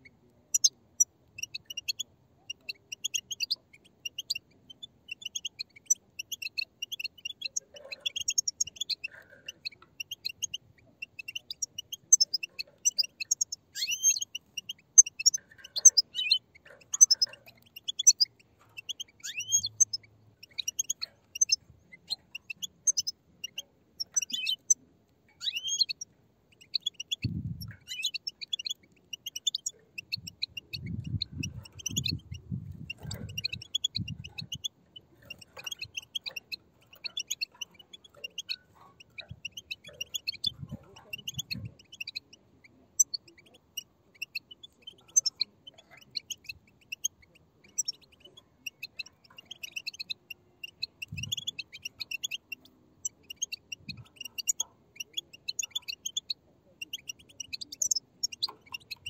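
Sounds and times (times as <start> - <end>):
chicks chirping begging calls: 0.0 - 59.0.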